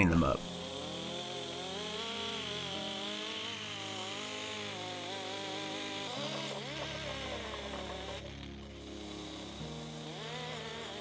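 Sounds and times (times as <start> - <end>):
rotary tool motor whine: 0.4 - 11.0.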